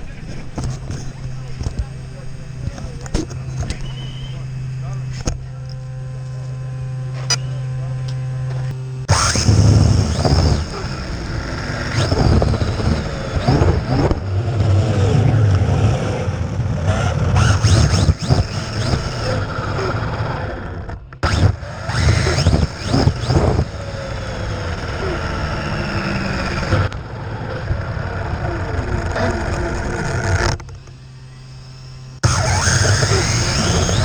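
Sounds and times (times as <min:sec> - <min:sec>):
electric motor whining: 0:00.0 - 0:34.0
quiet humming: 0:00.0 - 0:34.0.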